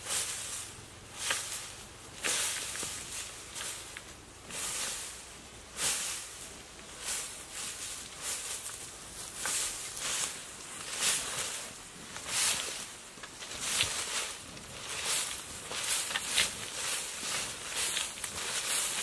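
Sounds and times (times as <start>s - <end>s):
dry soil scraped and flung: 0.0s - 19.0s.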